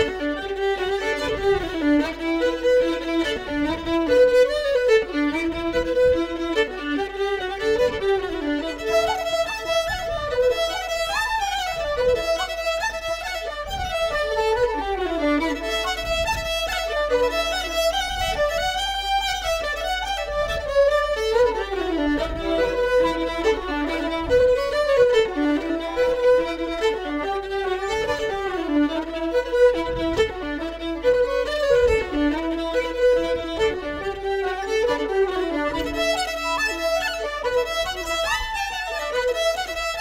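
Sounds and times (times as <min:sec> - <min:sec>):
fiddle playing quick melody: 0:00.0 - 0:40.0.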